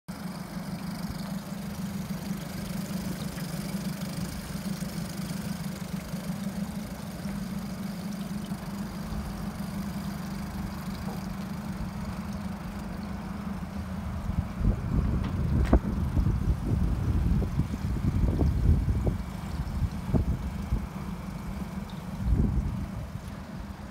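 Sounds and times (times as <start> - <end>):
outboard engines idling: 0.1 - 23.9.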